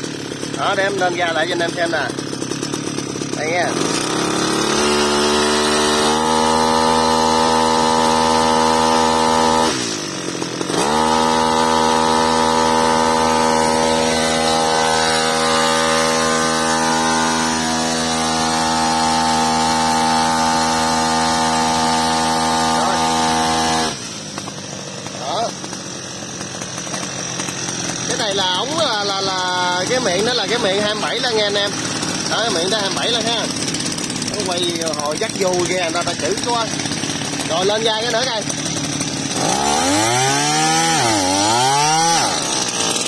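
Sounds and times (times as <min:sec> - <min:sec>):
brush cutter engine revving: 0:00.0 - 0:43.0.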